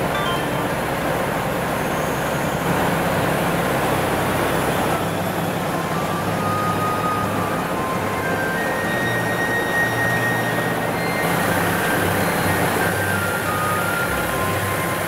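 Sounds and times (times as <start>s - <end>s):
diesel trucks idling: 0.0s - 15.0s.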